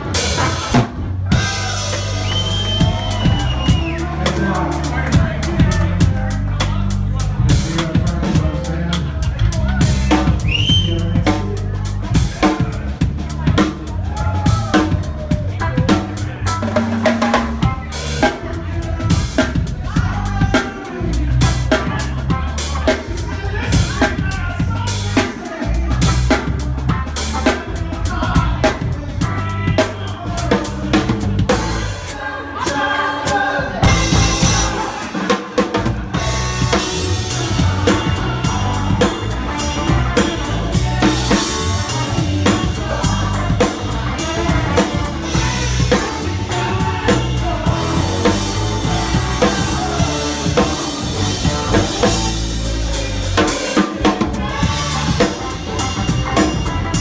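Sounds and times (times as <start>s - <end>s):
live band music: 0.0s - 57.0s.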